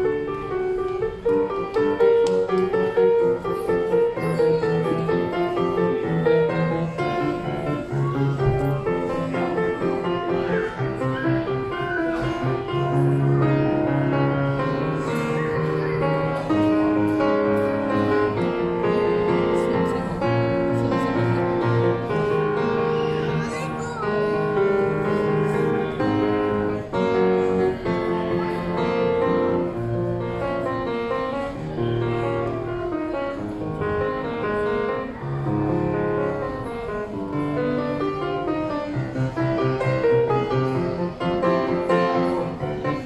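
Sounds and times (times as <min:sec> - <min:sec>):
grand piano playing: 0:00.0 - 0:43.0.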